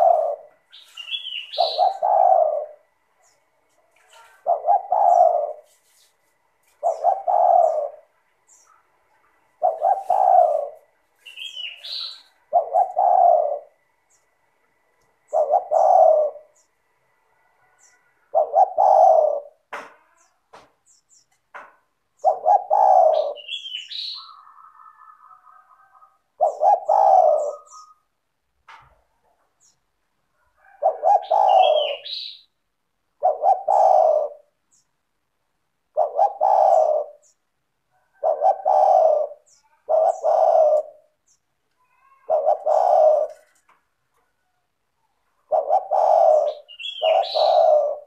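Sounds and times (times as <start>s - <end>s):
dove cooing: 0.0s - 14.2s, 15.2s - 16.8s, 17.6s - 20.3s, 21.6s - 28.2s, 30.3s - 32.5s, 33.1s - 34.6s, 35.8s - 48.0s.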